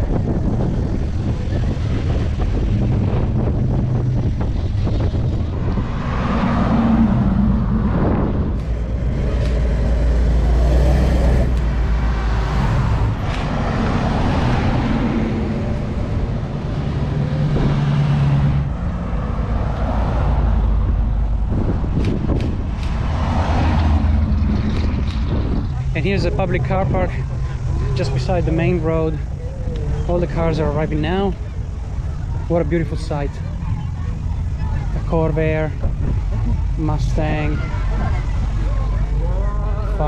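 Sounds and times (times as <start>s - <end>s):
cars driving past: 0.0s - 40.0s.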